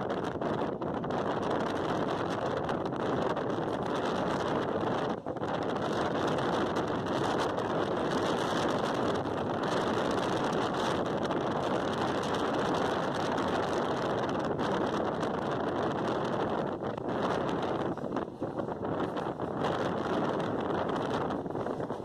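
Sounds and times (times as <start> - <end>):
moving passenger train rumble: 0.0 - 22.0
wind buffeting microphone: 0.0 - 22.0.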